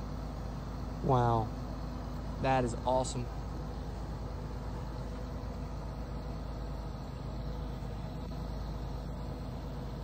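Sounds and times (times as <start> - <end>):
crane diesel engine rumbling: 0.0 - 10.0.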